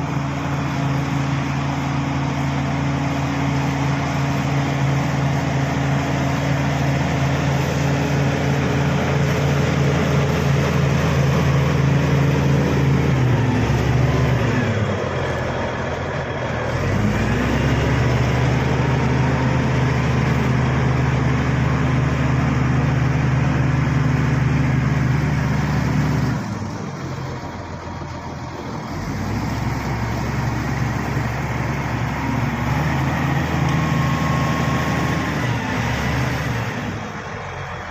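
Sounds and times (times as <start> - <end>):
bulldozer diesel engine: 0.0 - 37.9.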